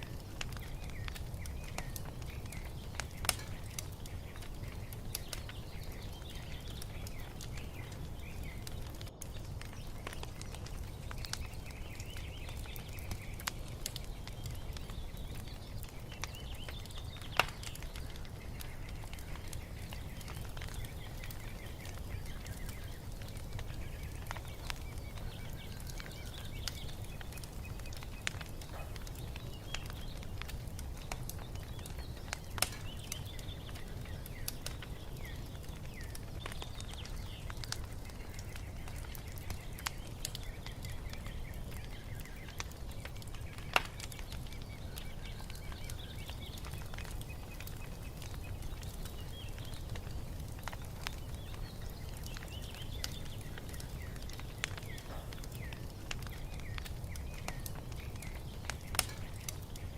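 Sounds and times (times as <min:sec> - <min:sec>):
birds chirping: 0:00.0 - 0:59.9
wood fire crackling: 0:00.0 - 0:59.9.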